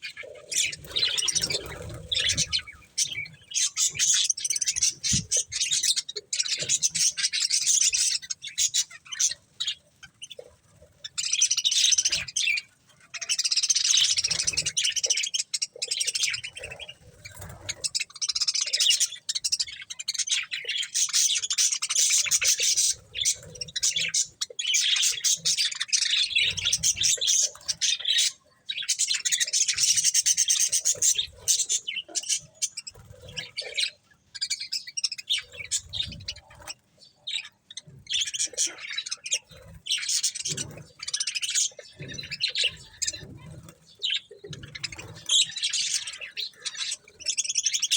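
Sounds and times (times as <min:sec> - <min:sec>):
budgerigars chirping and chattering: 0:00.0 - 0:47.9.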